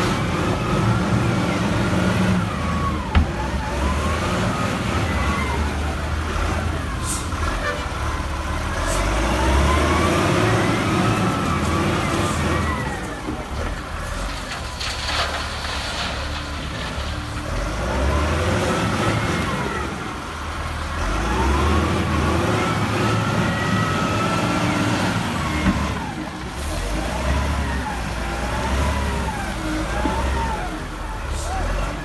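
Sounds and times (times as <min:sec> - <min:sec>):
diesel engine revving: 0:00.0 - 0:32.0.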